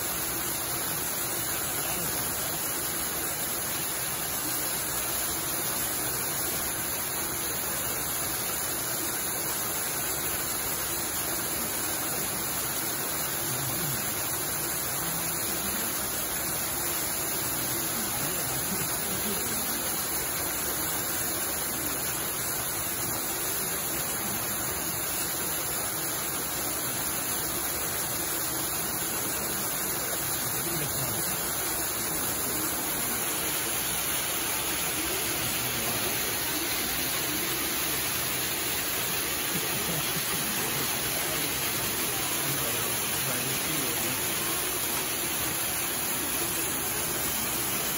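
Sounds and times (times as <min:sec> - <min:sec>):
steady rushing hiss: 0:00.0 - 0:47.9.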